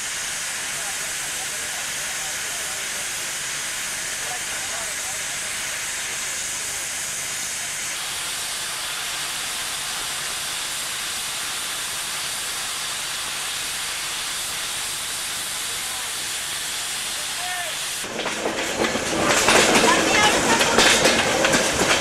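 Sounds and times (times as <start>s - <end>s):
steam hissing from locomotive: 0.0s - 22.0s.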